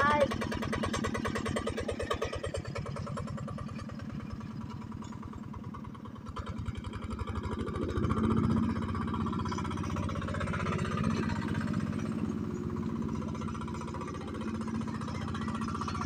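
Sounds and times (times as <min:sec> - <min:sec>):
diesel tractor engine running: 0:00.0 - 0:16.0.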